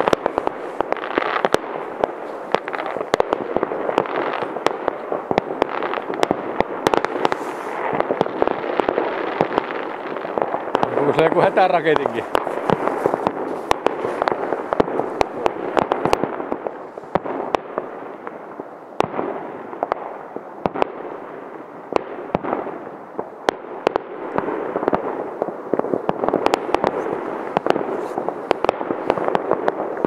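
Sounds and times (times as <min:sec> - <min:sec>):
distant firework bangs: 0:00.0 - 0:30.0
sharp close firework bangs: 0:00.0 - 0:30.0.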